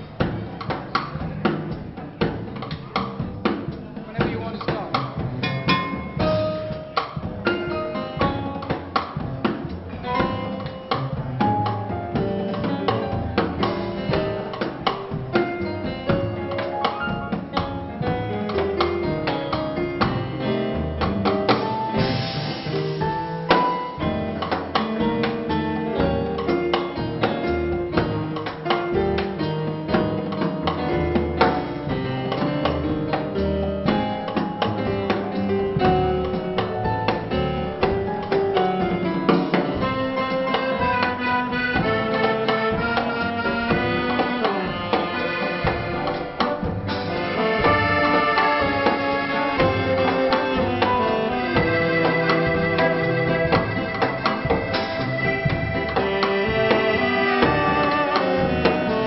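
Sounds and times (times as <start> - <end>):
dance band playing: 0.0 - 59.0
drums keeping steady beat: 0.0 - 59.0.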